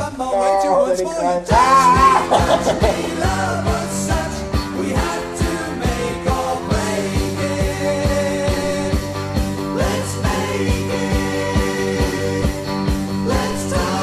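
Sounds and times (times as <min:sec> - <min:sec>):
instrumental rock music: 0:01.4 - 0:14.0.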